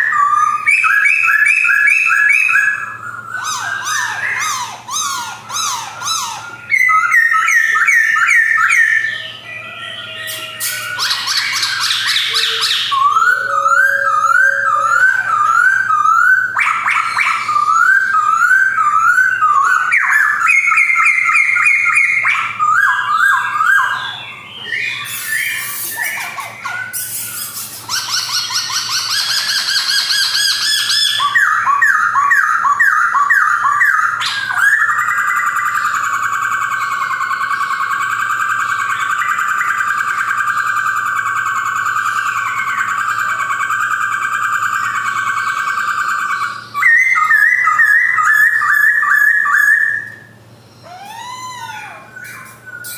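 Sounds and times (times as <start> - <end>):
bird singing whistled phrases: 0.0 - 52.9
bird warbling trill: 0.0 - 52.9.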